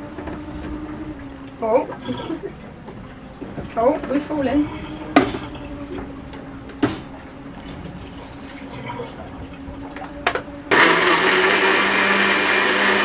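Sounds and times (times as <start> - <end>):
steady low hum: 0.0 - 10.8
countertop blender running: 0.0 - 13.0.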